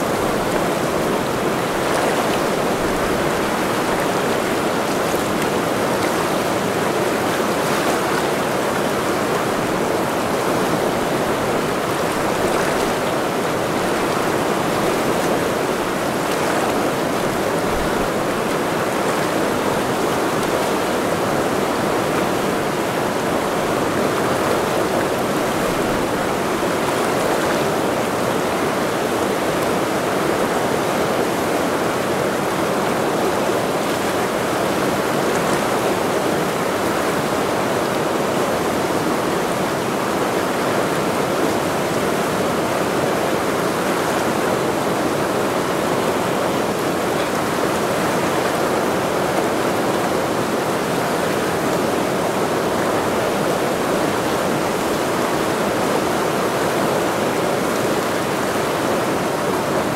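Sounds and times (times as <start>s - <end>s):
mountain river rushing: 0.0s - 59.9s.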